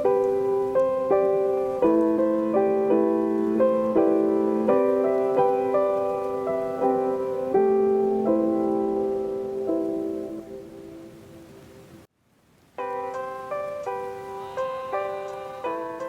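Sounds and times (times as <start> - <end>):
soft piano tune: 0.0 - 12.1, 12.7 - 16.0.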